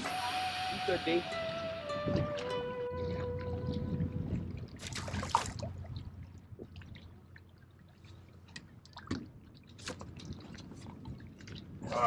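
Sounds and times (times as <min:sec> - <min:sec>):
water lapping: 0:00.0 - 0:12.0.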